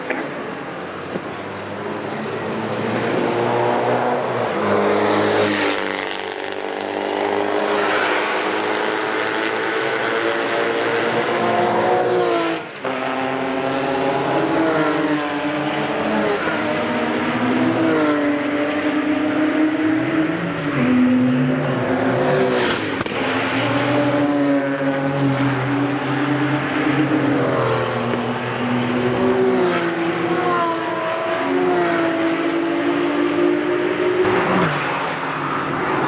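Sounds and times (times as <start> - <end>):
race car engines accelerating: 0.2 - 36.0.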